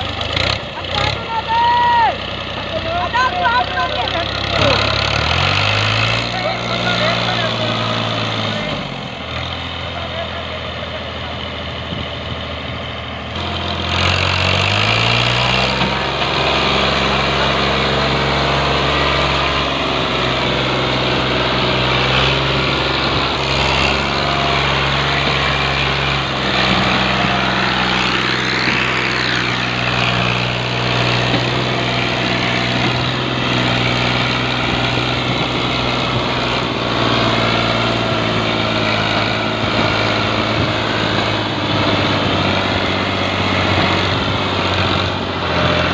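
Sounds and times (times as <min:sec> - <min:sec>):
tractor diesel engine revving: 0:00.0 - 0:45.9.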